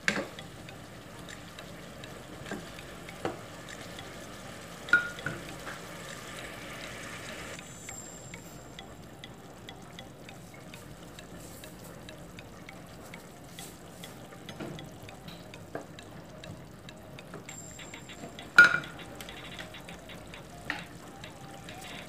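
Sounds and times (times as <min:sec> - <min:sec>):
utensil clacking on pot: 0:00.0 - 0:05.8, 0:08.8 - 0:22.0
food sizzling in a pot: 0:00.1 - 0:22.0.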